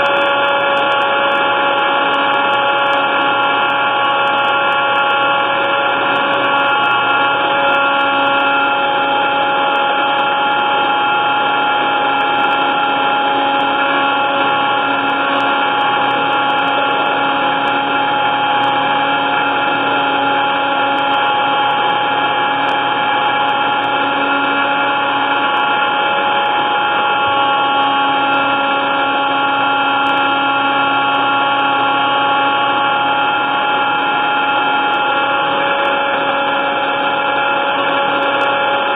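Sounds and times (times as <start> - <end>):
electric blender motor whining: 0.0 - 38.9.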